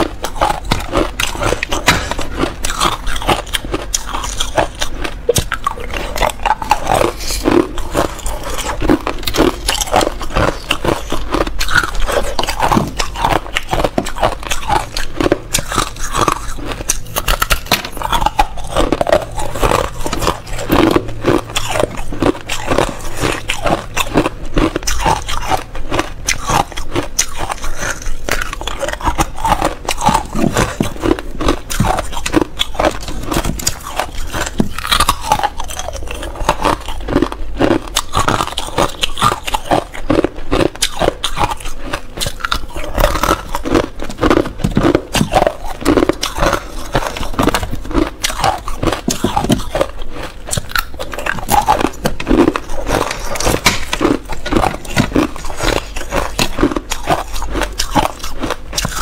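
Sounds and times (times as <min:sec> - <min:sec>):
ice crunching being chewed: 0:00.0 - 0:59.0.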